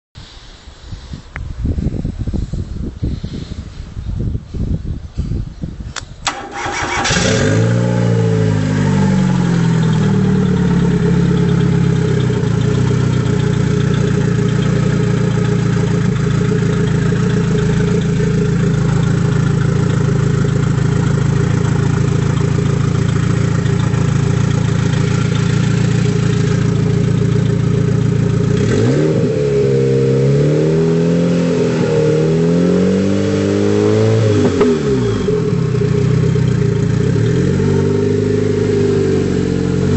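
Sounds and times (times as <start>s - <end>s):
car engine starting and idling: 6.2s - 39.9s
engine throttle blips: 6.2s - 39.9s.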